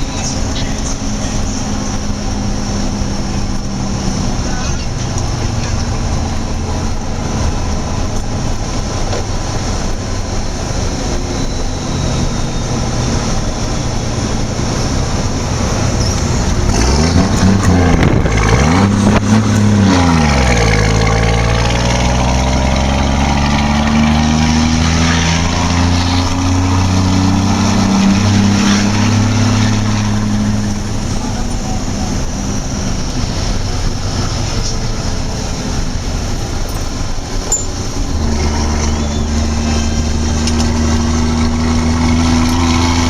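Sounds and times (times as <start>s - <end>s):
car engine from inside cabin: 0.0s - 43.0s
wind and road noise: 0.0s - 43.0s.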